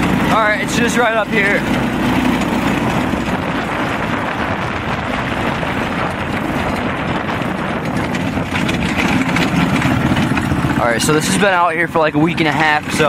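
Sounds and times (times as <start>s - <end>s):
go-kart engine running: 0.0s - 13.0s
wind rushing over microphone: 0.0s - 13.0s.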